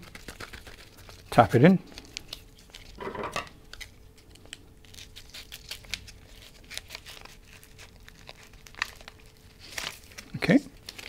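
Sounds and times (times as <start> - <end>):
plastic ribbon crinkling: 0.0 - 3.0, 3.6 - 11.0.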